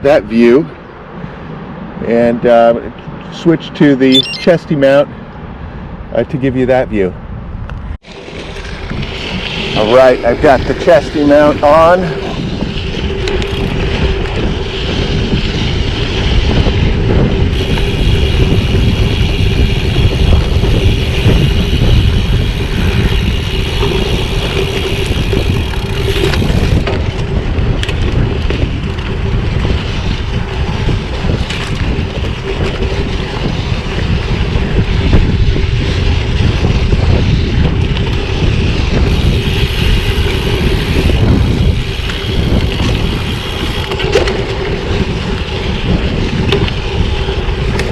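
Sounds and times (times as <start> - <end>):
wind on microphone: 7.2 - 47.9
bicycle tyre noise: 7.7 - 47.9.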